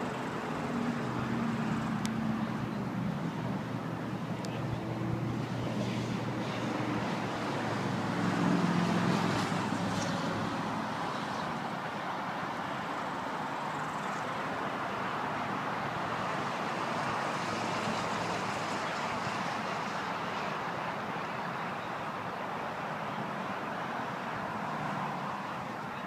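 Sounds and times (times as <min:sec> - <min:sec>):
road and traffic noise: 0:00.0 - 0:26.0.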